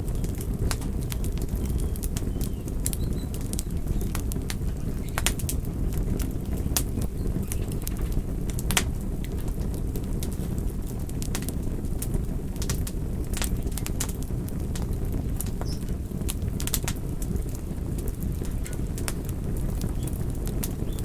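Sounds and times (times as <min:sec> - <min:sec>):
campfire crackling and popping: 0:00.0 - 0:21.0
campfire low rush: 0:00.0 - 0:21.0.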